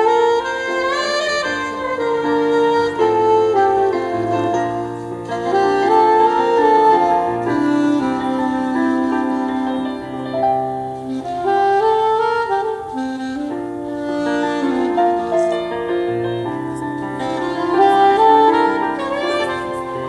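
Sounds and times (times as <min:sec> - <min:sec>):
piano: 0:00.0 - 0:20.0
saxophone slow melody: 0:00.0 - 0:20.0.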